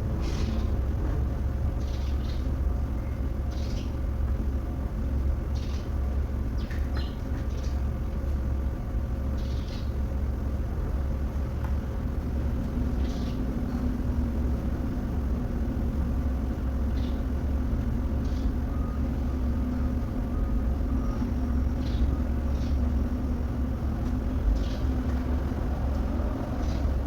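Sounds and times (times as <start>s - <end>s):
machine rumbling and humming: 0.0s - 27.0s.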